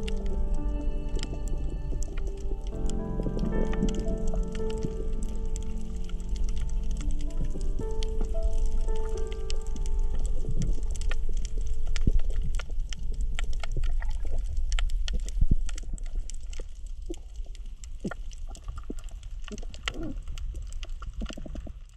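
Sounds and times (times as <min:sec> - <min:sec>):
low rumble of moving water: 0:00.0 - 0:21.9.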